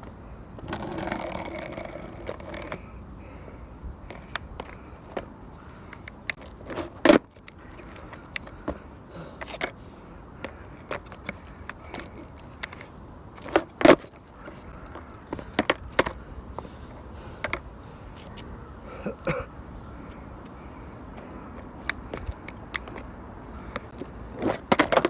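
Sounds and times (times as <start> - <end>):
skateboard clacking on pavement: 0.0 - 3.4, 4.0 - 18.5, 21.1 - 25.0.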